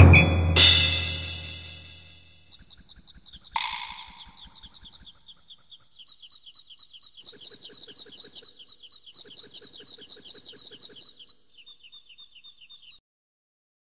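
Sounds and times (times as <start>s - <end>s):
lower chirping layer: 0.0s - 13.0s
bird chirping: 1.6s - 13.0s.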